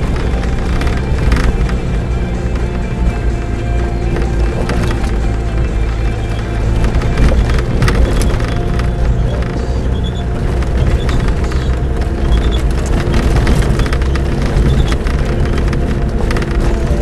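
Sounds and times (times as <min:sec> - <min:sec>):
knocks and rattles: 0:00.0 - 0:17.0
vehicle rumbling on dirt track: 0:00.0 - 0:17.0.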